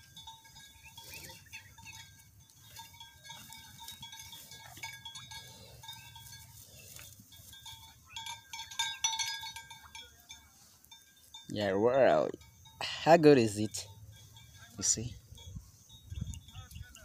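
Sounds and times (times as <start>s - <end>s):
farm animal calls: 0.0s - 11.4s, 12.0s - 17.0s.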